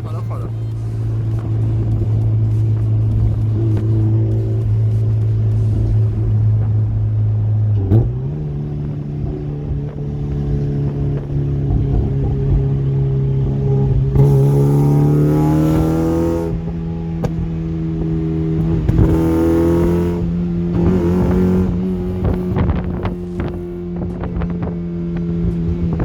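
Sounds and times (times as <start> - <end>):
car engine revving: 0.0 - 26.0
exhaust popping on overrun: 0.0 - 26.0.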